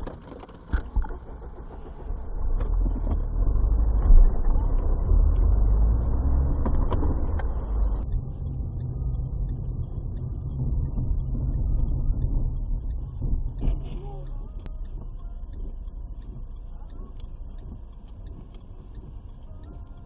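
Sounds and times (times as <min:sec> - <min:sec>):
car cabin driving rumble: 0:00.0 - 0:20.0.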